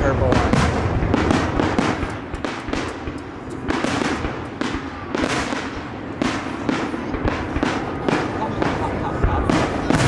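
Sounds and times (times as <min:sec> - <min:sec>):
firework booms: 0:00.0 - 0:10.0
small firework pops: 0:00.3 - 0:10.0.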